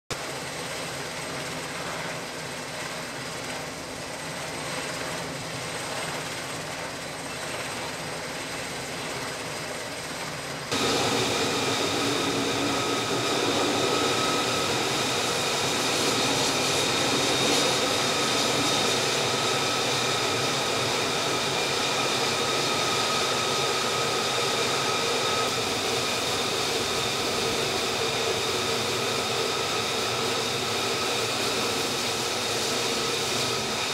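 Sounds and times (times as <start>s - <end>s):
jet engine rush with whine: 0.1s - 33.9s.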